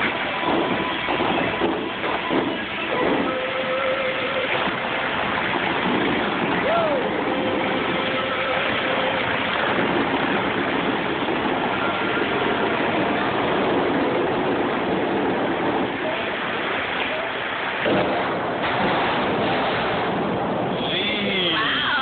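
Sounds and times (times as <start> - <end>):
rush of falling water jets: 0.0 - 22.0.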